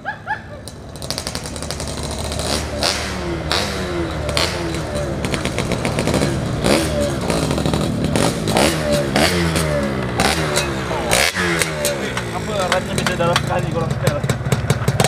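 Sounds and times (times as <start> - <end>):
engine crackles: 0.0 - 15.0
motorcycle engine revving: 0.0 - 15.0.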